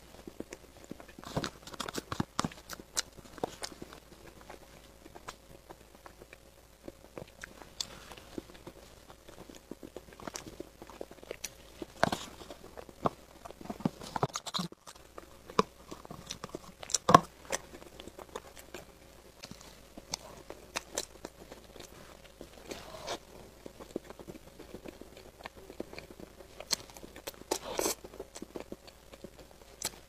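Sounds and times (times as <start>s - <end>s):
wet chewing mouth sounds: 0.0s - 30.0s.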